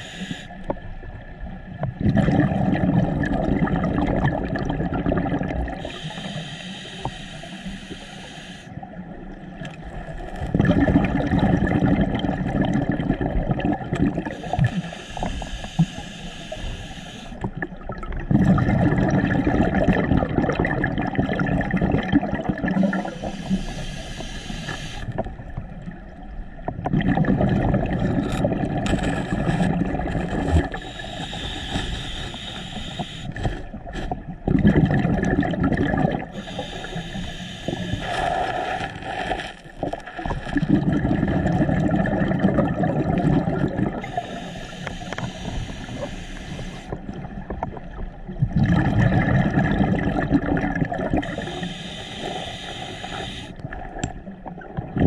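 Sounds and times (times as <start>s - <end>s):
regulator bubbling exhalations: 1.9s - 6.4s, 10.4s - 15.9s, 17.3s - 25.5s, 26.6s - 53.6s.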